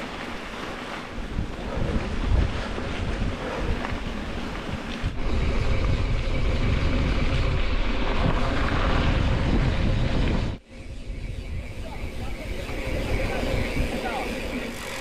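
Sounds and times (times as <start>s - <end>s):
wind buffeting the microphone: 1.0s - 15.0s.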